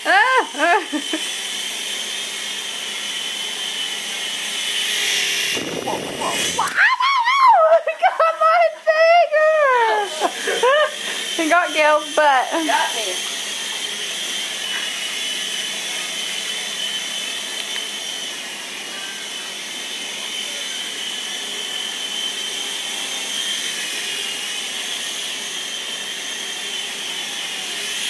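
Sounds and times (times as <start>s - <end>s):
toy helicopter motor whine: 0.0s - 28.0s.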